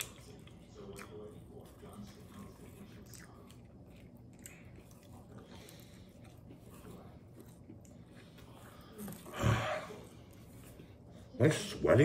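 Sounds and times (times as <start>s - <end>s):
faint chewing: 0.0s - 11.8s.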